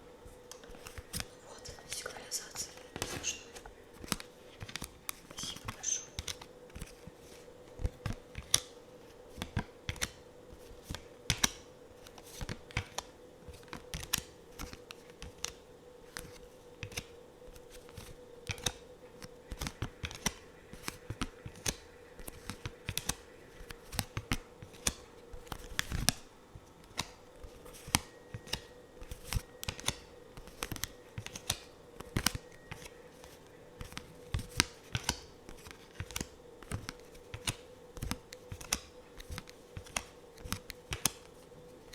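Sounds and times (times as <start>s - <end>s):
faint steady hum: 0.0s - 41.9s
cards clicking and tapping: 0.4s - 41.9s.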